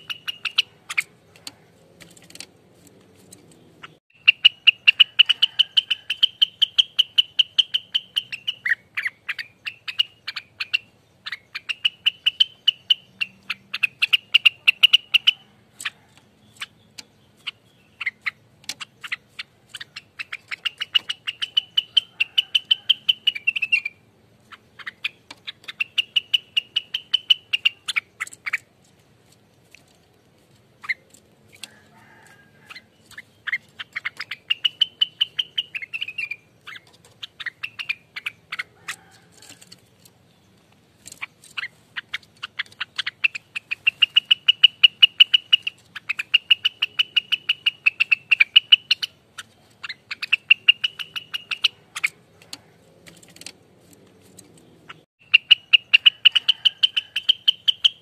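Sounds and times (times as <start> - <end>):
songbird singing rapid sharp notes: 0.0 - 58.0.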